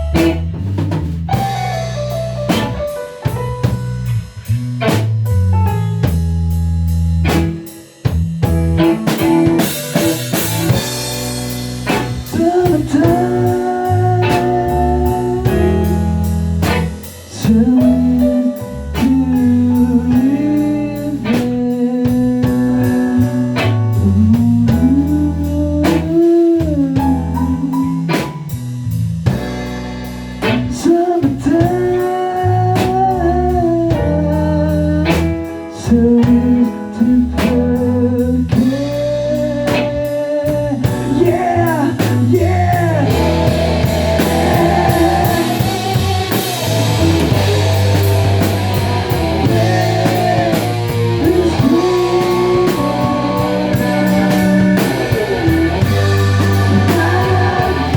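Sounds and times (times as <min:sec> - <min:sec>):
drum kit: 0:00.0 - 0:57.9
guitar: 0:00.0 - 0:57.9
person singing: 0:09.6 - 0:28.5, 0:30.4 - 0:57.9.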